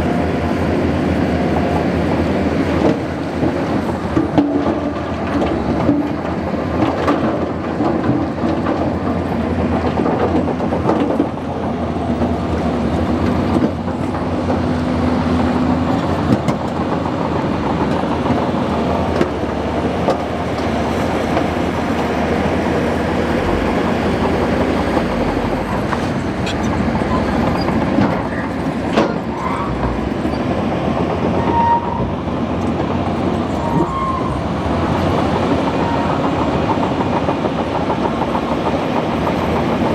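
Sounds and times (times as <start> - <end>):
bulldozer diesel engine running: 0.0 - 39.9
steel tracks clattering: 0.0 - 39.9.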